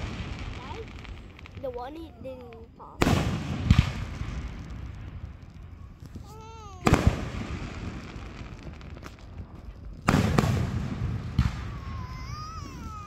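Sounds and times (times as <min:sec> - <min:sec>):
fireworks bursting with echo: 0:00.0 - 0:13.0.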